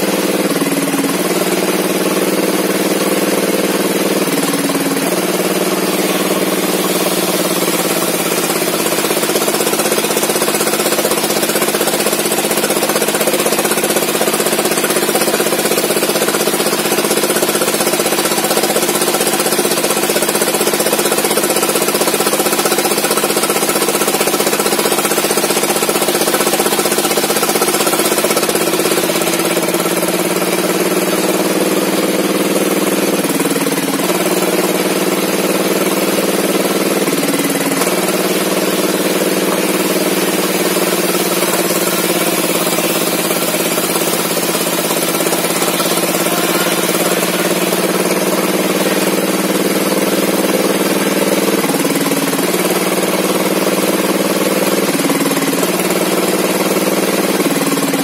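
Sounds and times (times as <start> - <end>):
chainsaw sawing a log: 0.0 - 58.0.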